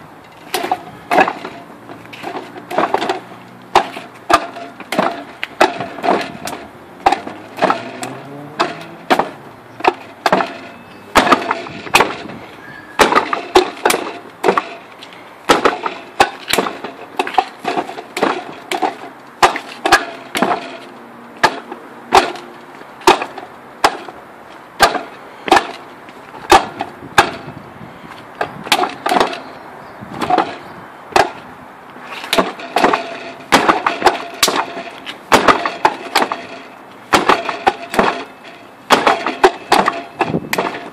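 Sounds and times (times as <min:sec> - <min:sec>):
hands striking wooden dummy: 0:00.4 - 0:12.4, 0:13.0 - 0:24.2, 0:24.8 - 0:25.8, 0:26.4 - 0:29.5, 0:30.2 - 0:31.5, 0:32.1 - 0:40.9.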